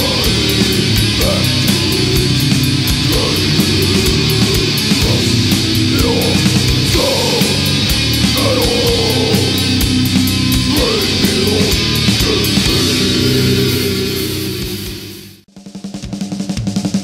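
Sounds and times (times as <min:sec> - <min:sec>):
distorted electric guitars: 0:00.0 - 0:15.4
drums: 0:00.0 - 0:17.0
fast cymbal beat: 0:00.0 - 0:17.0.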